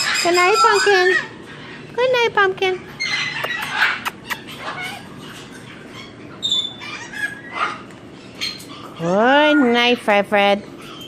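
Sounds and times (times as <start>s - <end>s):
parrots whistling and chirping: 0.0s - 1.8s, 2.9s - 9.8s, 10.6s - 11.0s.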